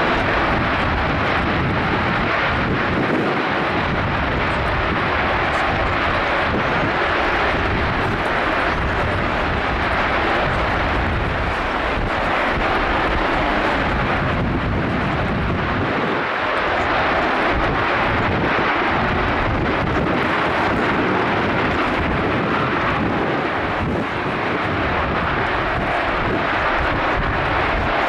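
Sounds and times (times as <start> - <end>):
jet engine roaring: 0.0 - 28.0.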